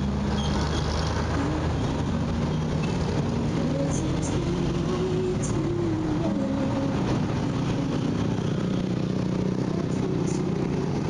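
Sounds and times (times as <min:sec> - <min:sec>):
street traffic engines: 0:00.0 - 0:11.0.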